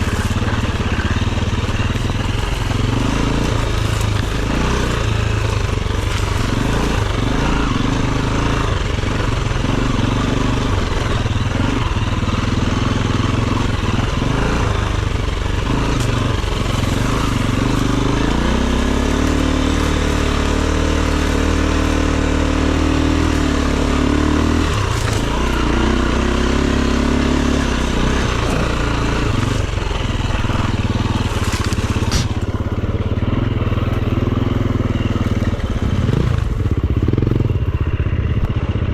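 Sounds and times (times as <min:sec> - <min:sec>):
dirt bike engine revving: 0:00.0 - 0:38.9
rattle from the trail: 0:00.0 - 0:38.9.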